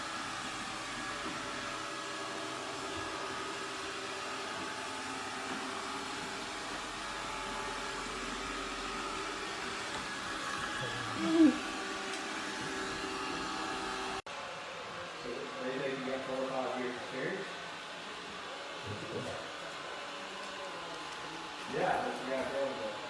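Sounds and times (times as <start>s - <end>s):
robot vacuum motor hum: 0.1s - 14.2s, 17.4s - 23.0s.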